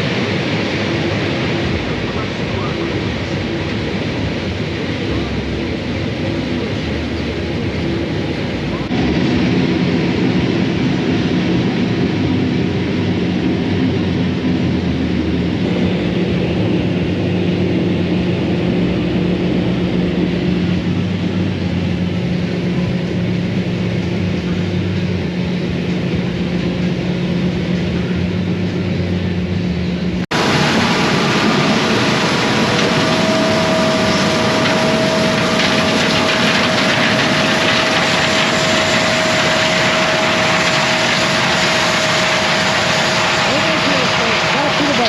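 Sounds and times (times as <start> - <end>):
hissy machine noise with whine: 0.0 - 45.0
vehicle engine humming: 0.0 - 45.0.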